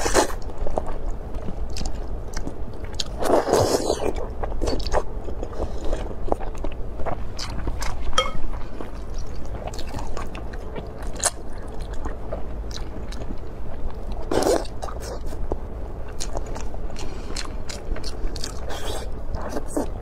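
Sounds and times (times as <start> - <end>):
chewing with wet mouth clicks: 0.6 - 19.9.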